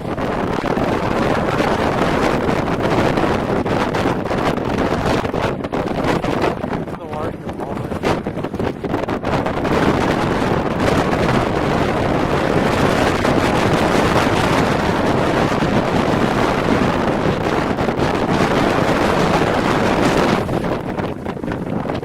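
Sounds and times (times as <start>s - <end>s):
wind blasting across microphone: 0.0s - 22.0s.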